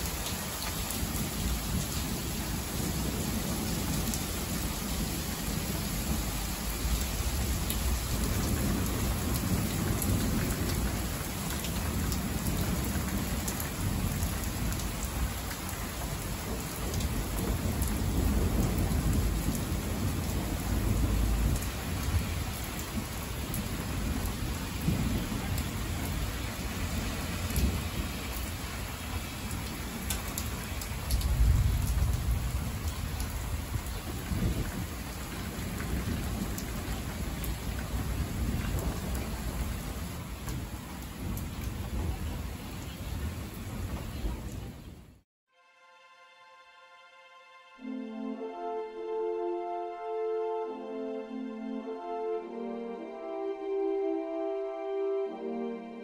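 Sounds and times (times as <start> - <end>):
thunder rumbling: 0.0 - 45.1
heavy rain on roofs: 0.0 - 45.2.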